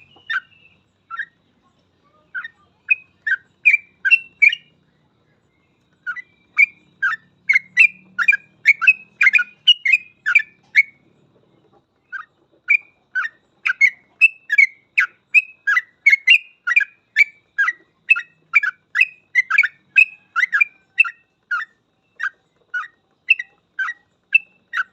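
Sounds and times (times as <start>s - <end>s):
bird chirping song: 0.0s - 24.9s.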